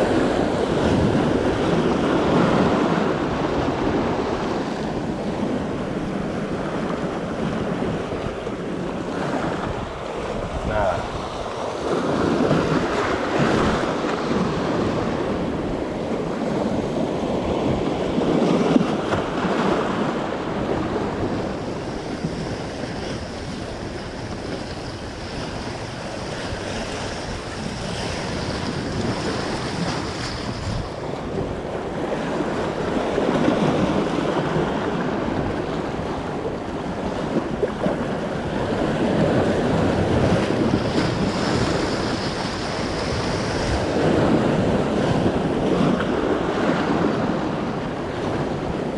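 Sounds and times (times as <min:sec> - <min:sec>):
waves breaking against rocks: 0:00.0 - 0:48.9
wind buffeting microphone: 0:00.0 - 0:48.9.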